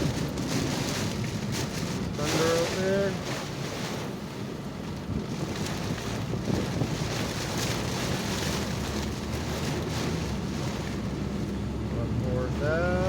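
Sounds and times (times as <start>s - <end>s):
heavy rain on a car: 0.0s - 13.0s
tyre noise on wet road: 0.0s - 13.0s.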